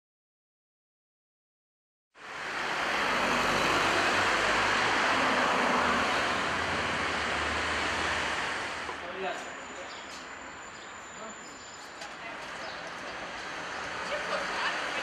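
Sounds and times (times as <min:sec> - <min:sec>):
city street traffic noise: 0:02.2 - 0:15.0.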